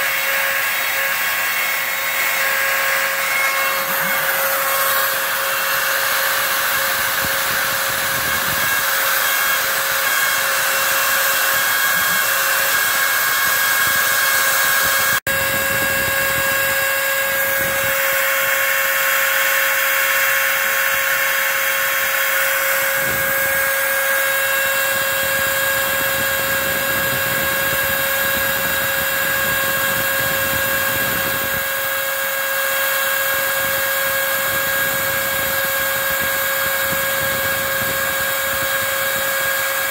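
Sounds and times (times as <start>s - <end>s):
router spindle high whine: 0.0s - 39.9s
vacuum drawing chips through hose: 0.0s - 39.9s.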